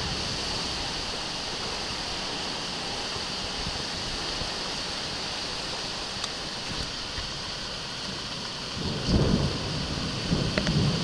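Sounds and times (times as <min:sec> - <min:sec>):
heavy rain rushing hiss: 0:00.0 - 0:11.0.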